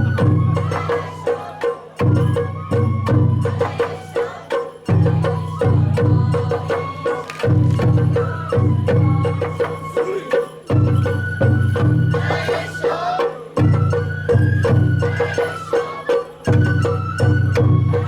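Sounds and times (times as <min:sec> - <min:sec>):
bamboo flute melody: 0:00.0 - 0:18.0
taiko drum rolls: 0:02.0 - 0:10.0, 0:10.7 - 0:18.0.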